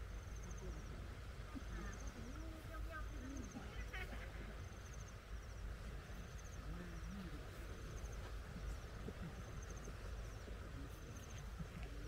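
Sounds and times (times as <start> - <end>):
faint distant voices murmuring: 0.0 - 12.0.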